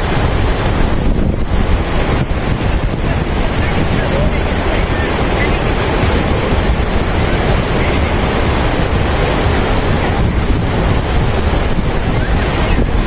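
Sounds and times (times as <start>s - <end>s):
waterfall rushing: 0.0s - 13.0s
wind buffeting microphone: 0.0s - 13.0s.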